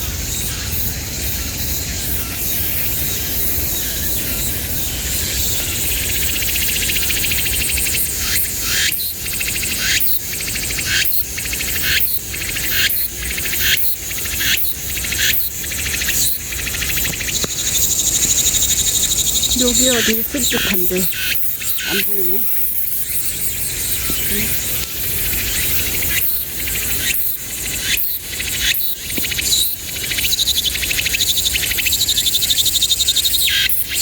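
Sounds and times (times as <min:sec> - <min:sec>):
insect chorus buzzing: 0:00.0 - 0:34.0.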